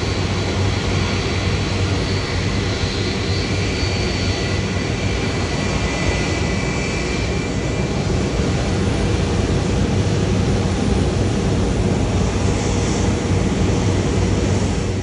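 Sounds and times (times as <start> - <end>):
jet engines rumbling and whining: 0.0 - 15.0.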